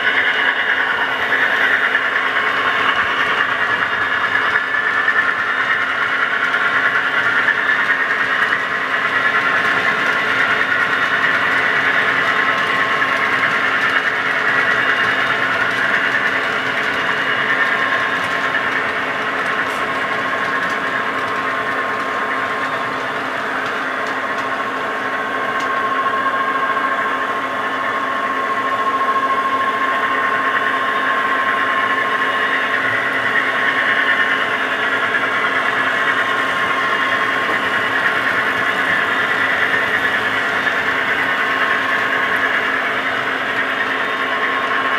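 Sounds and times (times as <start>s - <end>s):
model locomotive diesel engine sound: 0.0s - 44.9s.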